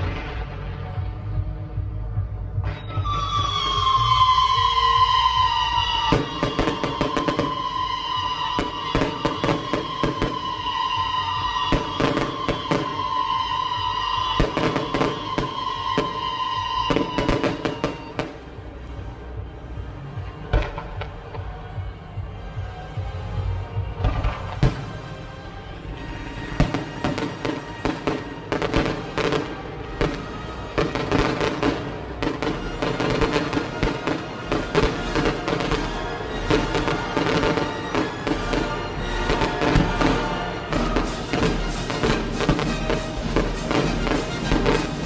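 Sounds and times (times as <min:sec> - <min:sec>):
fireworks bangs and cracks: 0:00.0 - 0:18.6, 0:23.5 - 0:45.0
background music: 0:00.0 - 0:45.0.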